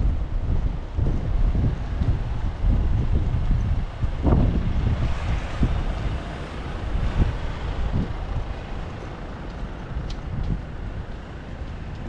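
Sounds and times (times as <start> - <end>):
road traffic: 0.0 - 12.0
wind buffeting microphone: 0.0 - 12.0.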